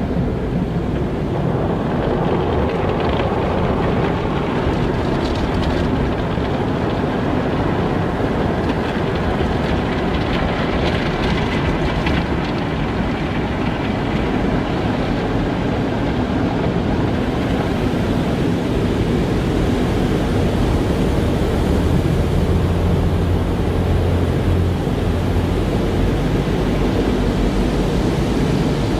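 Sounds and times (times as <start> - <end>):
car wash spray and machinery: 0.0 - 28.9.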